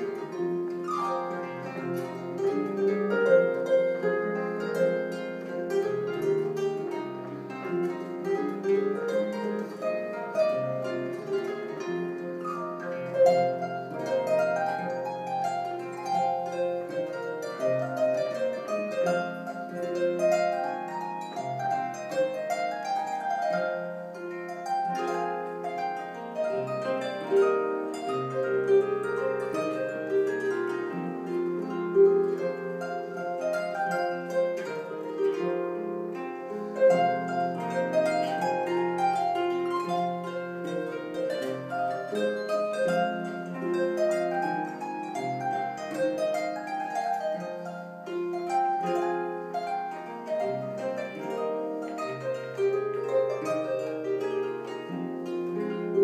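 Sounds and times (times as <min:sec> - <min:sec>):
solo harp melody: 0:00.0 - 0:56.0.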